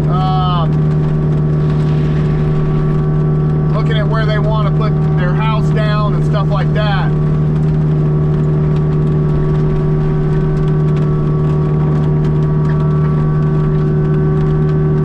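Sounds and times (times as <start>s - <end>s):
mini excavator engine drone: 0.0s - 15.0s
mulching head whine: 0.0s - 15.0s.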